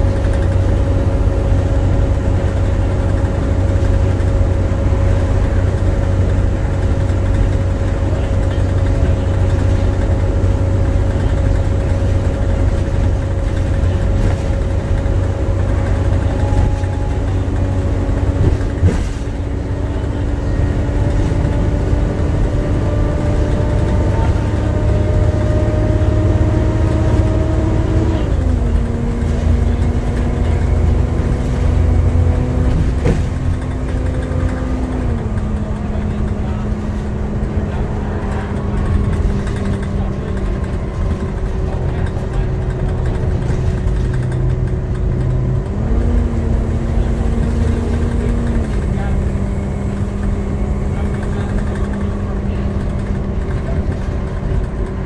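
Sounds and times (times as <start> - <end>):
bus engine whine: 0.0 - 55.0
low rumble: 0.0 - 55.0.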